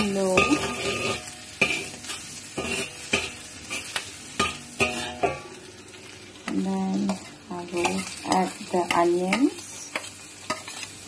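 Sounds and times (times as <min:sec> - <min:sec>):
metal spatula scraping a wok: 0:00.0 - 0:05.6, 0:06.9 - 0:11.0
ginger sizzling in a wok: 0:00.0 - 0:11.0.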